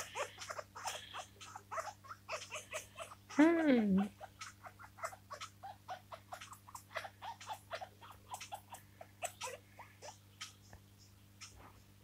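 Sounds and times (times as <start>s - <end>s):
parrot chirping chatter: 0.0s - 11.6s.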